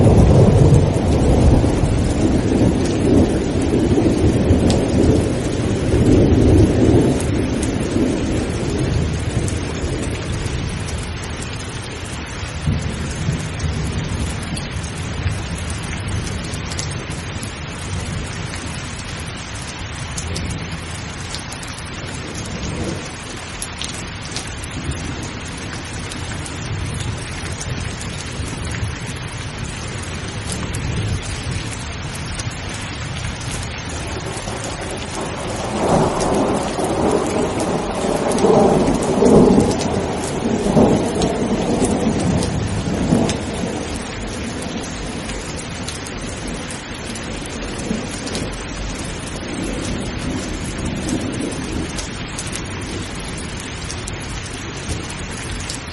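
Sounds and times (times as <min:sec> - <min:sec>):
heavy rain: 0:00.0 - 0:55.9
thunder rumbling: 0:00.0 - 0:55.9.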